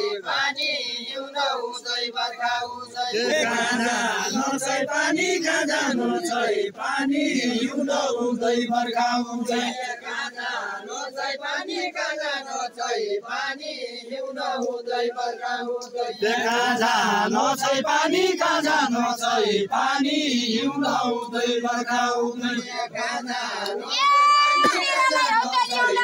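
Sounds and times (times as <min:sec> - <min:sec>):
men singing in chanting style: 0:00.0 - 0:23.9.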